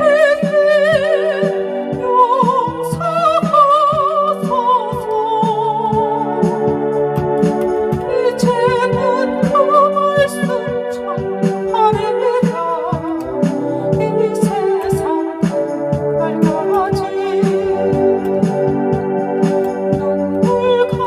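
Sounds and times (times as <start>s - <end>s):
electronic organ accompaniment: 0.0s - 21.0s.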